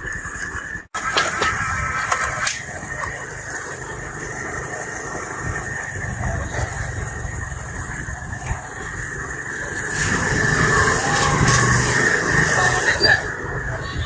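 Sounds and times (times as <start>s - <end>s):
vehicle engine running: 1.0s - 14.0s.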